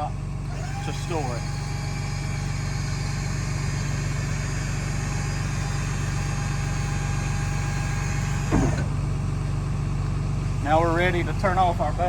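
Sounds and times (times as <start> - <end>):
electric lift motor running: 0.0 - 12.0
lift motor stopping noise: 0.0 - 12.0
truck engine idling: 0.0 - 12.0.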